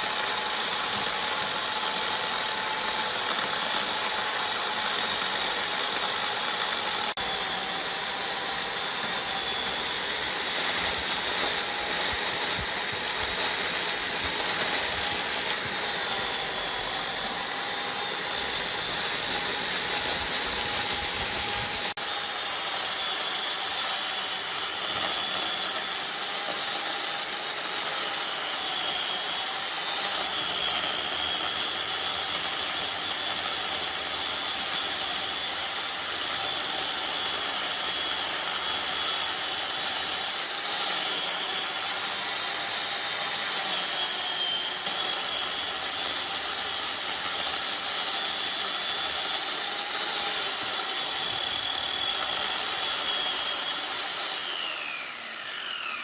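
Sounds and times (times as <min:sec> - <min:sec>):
power tool whining: 0:00.0 - 0:56.0.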